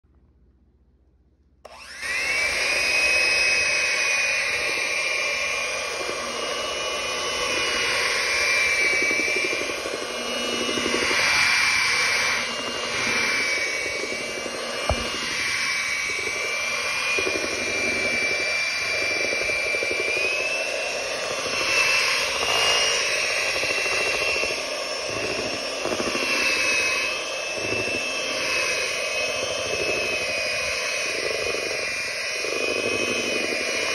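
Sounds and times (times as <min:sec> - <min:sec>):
electric hand mixer whining: 0:01.6 - 0:33.9.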